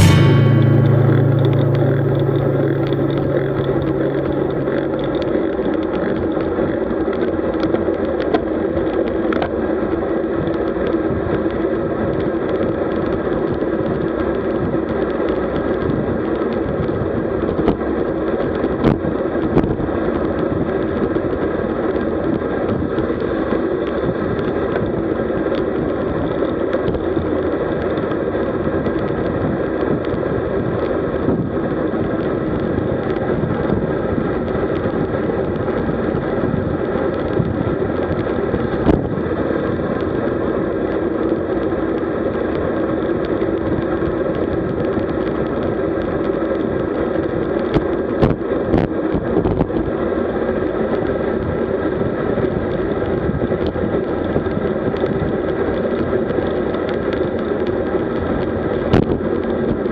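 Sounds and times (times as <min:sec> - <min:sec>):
wind rush on microphone: 0:02.2 - 0:59.9.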